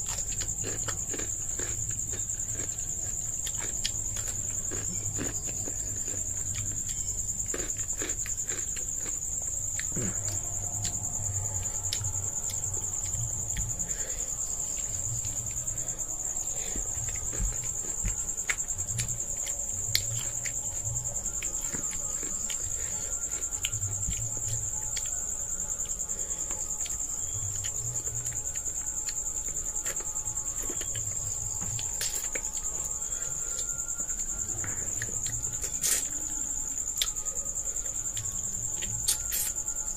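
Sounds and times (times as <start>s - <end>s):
chewing: 0.0s - 37.2s, 37.8s - 39.6s
cricket trilling: 0.0s - 39.9s.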